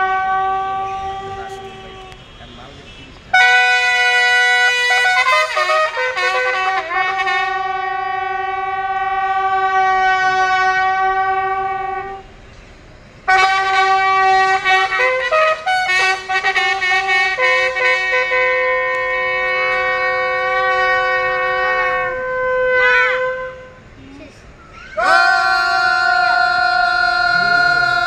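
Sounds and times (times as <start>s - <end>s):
wind instruments playing slow tune: 0.0s - 12.4s, 13.3s - 23.9s, 25.0s - 28.0s.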